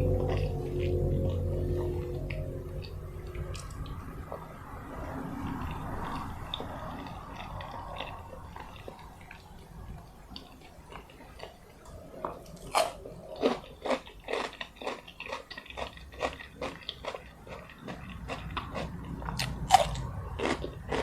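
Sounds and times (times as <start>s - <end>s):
mouth chewing: 0.0s - 21.0s.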